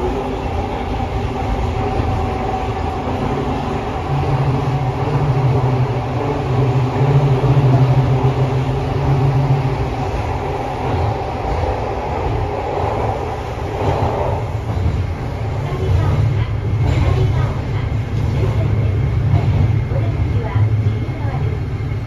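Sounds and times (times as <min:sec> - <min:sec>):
subway wheels rumbling: 0:00.0 - 0:22.0.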